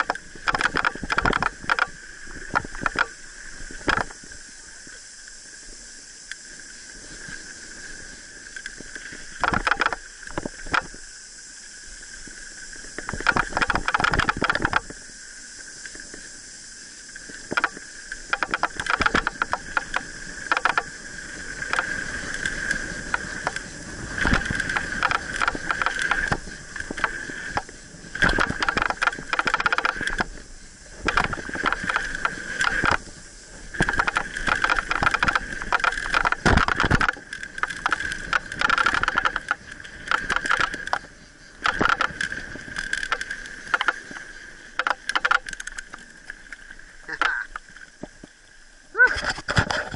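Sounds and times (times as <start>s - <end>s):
bike rattling over bumps: 0.0s - 4.6s, 7.0s - 11.2s, 12.1s - 15.1s, 17.1s - 48.4s
bike wheels whirring hiss: 0.0s - 9.4s, 10.0s - 13.9s, 14.8s - 49.1s.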